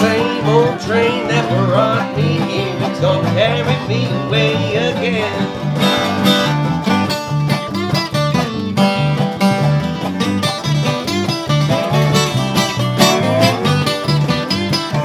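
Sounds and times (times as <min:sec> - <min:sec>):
acoustic guitar: 0:00.0 - 0:15.0
bass guitar: 0:00.0 - 0:15.0
harmonica: 0:00.0 - 0:15.0
resonator guitar: 0:00.0 - 0:15.0.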